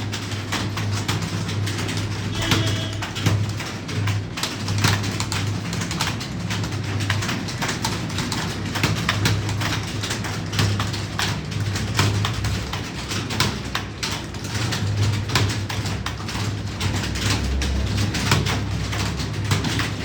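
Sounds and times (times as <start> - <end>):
keyboard typing clatter: 0.0 - 20.0.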